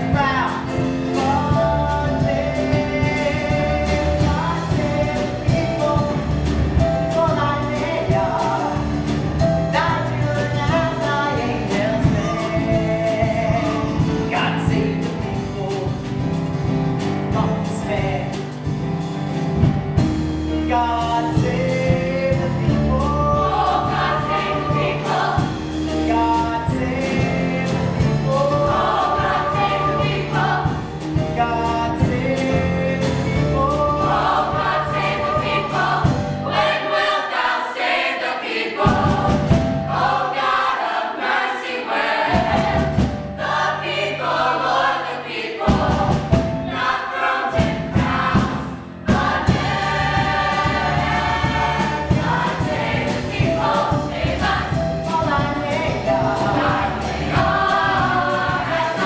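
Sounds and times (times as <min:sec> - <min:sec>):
live band accompaniment: 0:00.0 - 0:59.0.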